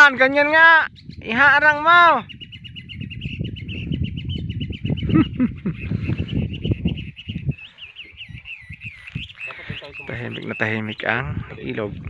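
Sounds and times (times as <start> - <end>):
bird chirping and warbling: 0.0 - 12.0.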